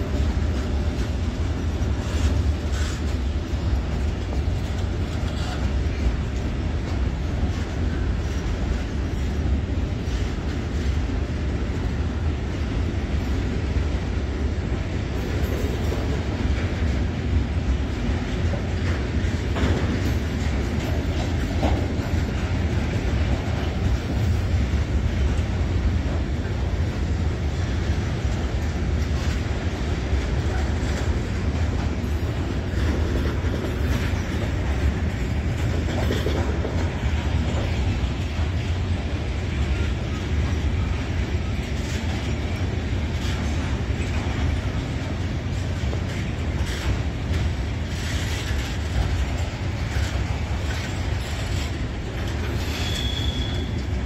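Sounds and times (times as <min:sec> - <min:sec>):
wheels clicking over rail joints: 0:00.0 - 0:13.6, 0:15.1 - 0:54.0
train wheels rumbling on rails: 0:00.0 - 0:54.0.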